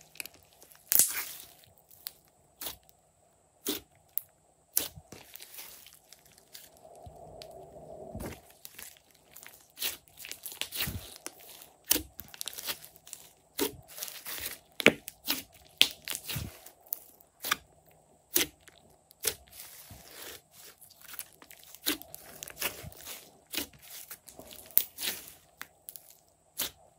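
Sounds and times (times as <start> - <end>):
slime squelching: 0.0 - 2.9, 3.6 - 17.6, 18.3 - 26.9.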